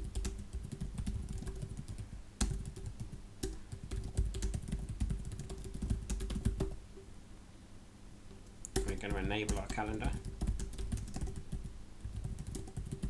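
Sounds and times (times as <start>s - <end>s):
typing on computer keyboard: 0.0s - 6.8s, 8.7s - 13.0s
steady low hum: 0.0s - 13.0s.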